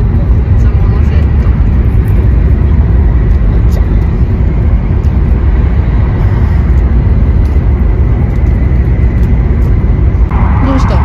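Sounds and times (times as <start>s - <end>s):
train rumbling at speed: 0.0s - 11.0s.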